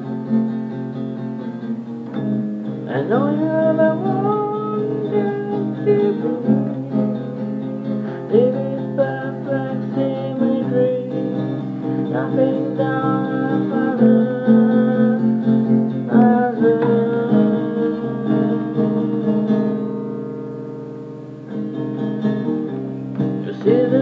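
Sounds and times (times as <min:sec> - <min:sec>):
acoustic guitar strummed: 0:00.0 - 0:24.0.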